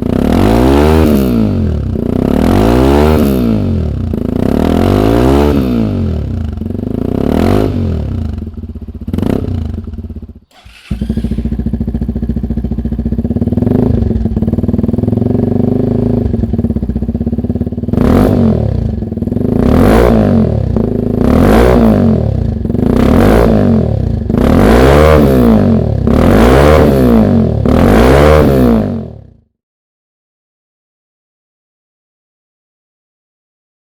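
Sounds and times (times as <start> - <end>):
motorcycle engine revving: 0.0 - 29.4.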